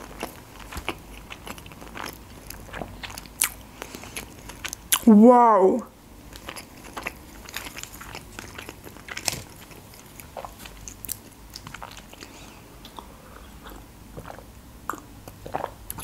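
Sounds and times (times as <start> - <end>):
person chewing food: 0.0 - 5.1, 6.2 - 16.0.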